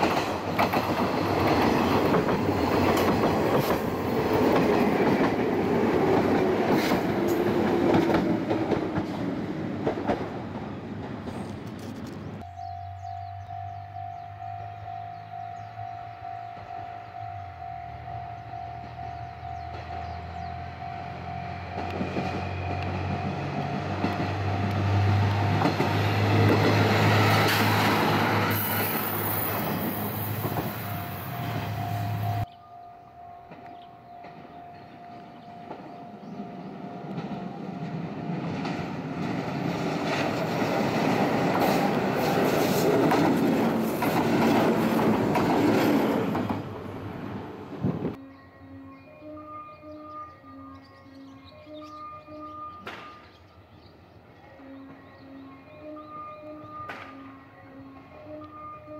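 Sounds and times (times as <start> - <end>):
electric train wheels on track: 0.0 - 32.5, 33.4 - 48.2
diesel railcar engine rumble: 0.0 - 48.3.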